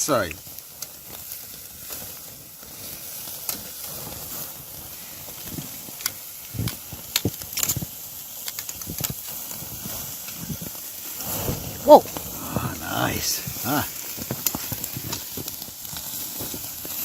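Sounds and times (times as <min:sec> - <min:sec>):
sharp crackles: 0:00.0 - 0:17.0
steak sizzling on a grill: 0:00.0 - 0:17.0.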